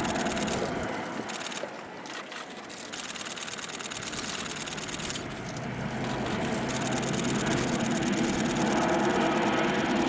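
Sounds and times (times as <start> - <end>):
turboprop aircraft droning: 0.0 - 10.0.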